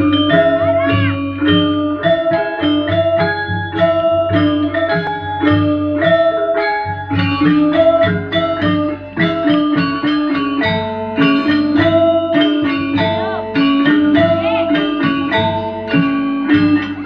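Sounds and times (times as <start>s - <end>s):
gamelan music over sound system: 0.0s - 17.0s.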